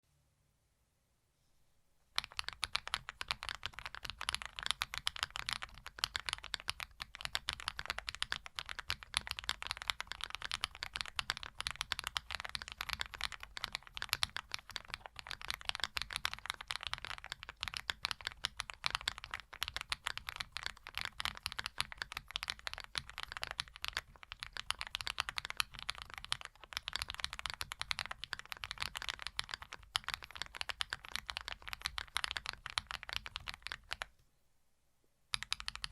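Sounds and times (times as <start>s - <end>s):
fast mechanical keyboard typing: 2.2s - 34.1s, 35.3s - 35.9s.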